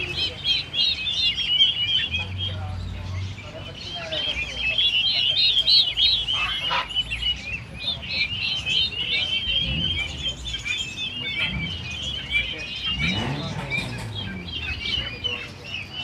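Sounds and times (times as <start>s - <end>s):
many small birds chirping: 0.0s - 16.0s.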